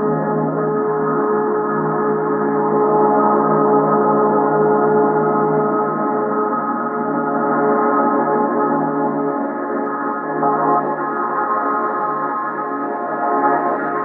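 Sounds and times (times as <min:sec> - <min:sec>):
ambient drone with gong shimmer: 0:00.0 - 0:14.0.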